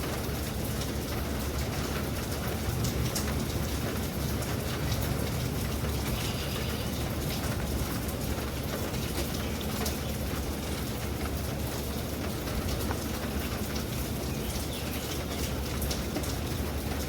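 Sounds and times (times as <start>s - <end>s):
raindrops ticking on a surface: 0.0s - 17.0s
storm rain: 0.0s - 17.0s.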